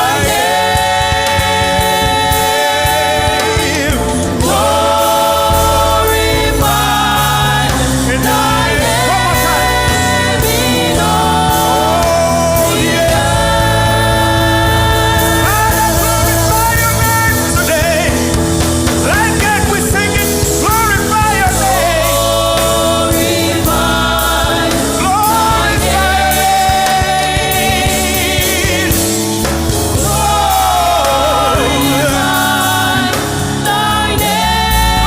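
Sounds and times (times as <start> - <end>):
person singing gospel: 0.0 - 35.0
sustained chords and bass: 0.0 - 35.0.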